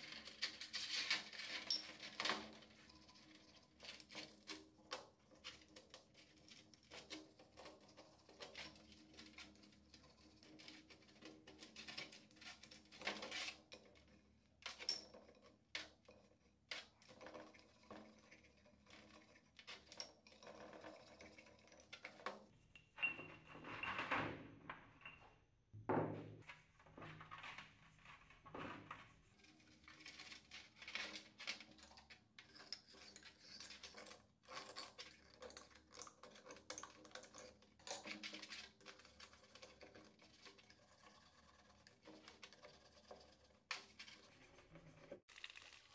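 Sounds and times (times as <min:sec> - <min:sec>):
small brush scrubbing metal tubes: 0:00.0 - 0:23.8, 0:26.4 - 0:45.9.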